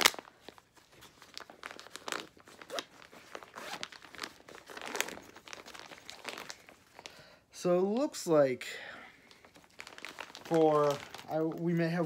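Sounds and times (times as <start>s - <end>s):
plastic bags crinkling: 0.0s - 8.5s, 9.1s - 12.0s.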